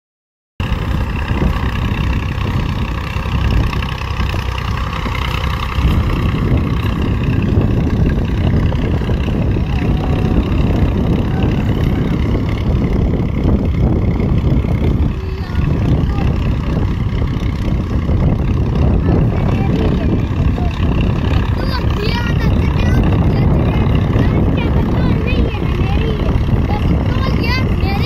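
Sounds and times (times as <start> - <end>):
tractor diesel engine under load: 0.6 - 28.0.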